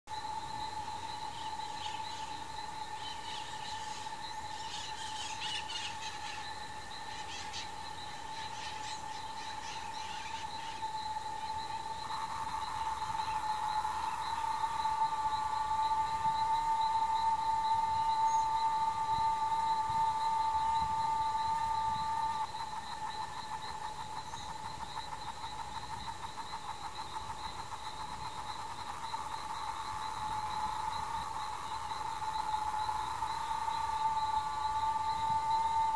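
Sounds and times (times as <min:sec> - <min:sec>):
high insect drone: 0:00.1 - 0:35.9
chorus of calling animals: 0:00.2 - 0:35.9.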